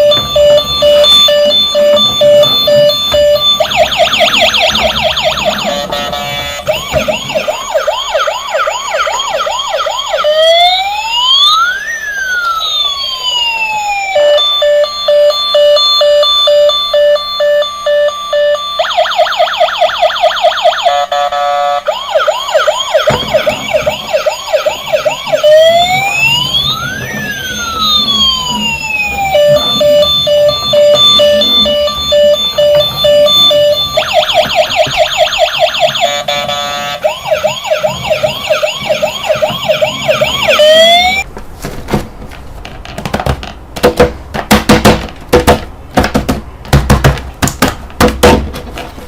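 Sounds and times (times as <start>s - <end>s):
electronic toy siren: 0.0s - 41.3s.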